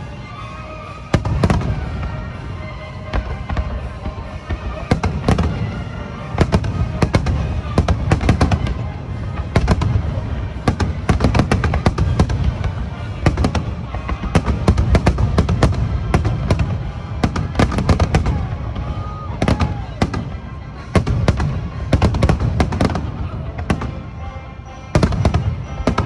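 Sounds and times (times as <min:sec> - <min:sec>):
music: 0:00.0 - 0:26.0.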